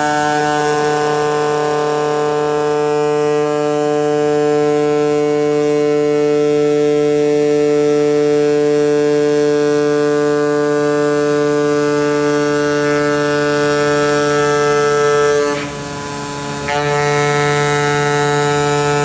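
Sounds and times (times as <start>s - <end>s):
cutting machine buzzing hum: 0.0s - 19.0s.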